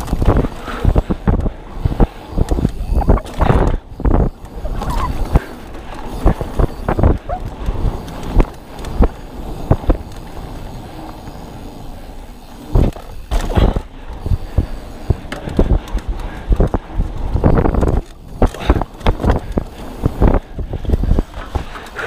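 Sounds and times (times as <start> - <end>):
bike knocking and rattling: 0.0 - 22.0
bike tyres rolling on dirt: 0.0 - 22.0.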